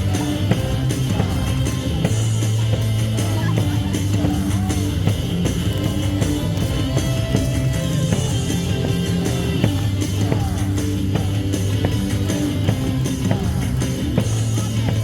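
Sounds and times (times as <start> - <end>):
crowd noise: 0.0 - 15.0
rock music over loudspeakers: 0.0 - 15.0.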